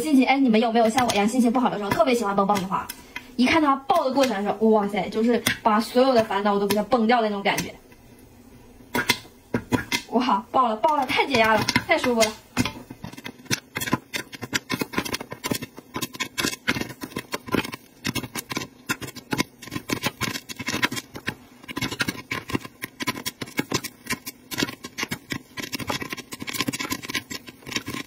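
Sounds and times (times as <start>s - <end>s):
popcorn popping: 0.0s - 28.0s.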